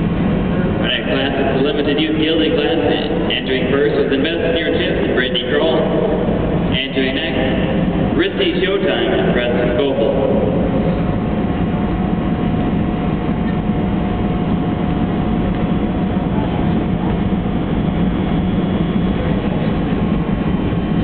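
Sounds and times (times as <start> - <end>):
faint constant hum: 0.0 - 21.0
indoor arena background din: 0.0 - 21.0.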